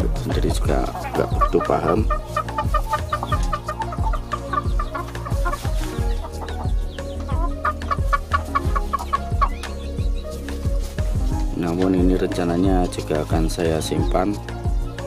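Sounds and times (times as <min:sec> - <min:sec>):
background music with steady beat: 0:00.0 - 0:15.0
chicken clucking: 0:00.3 - 0:14.3.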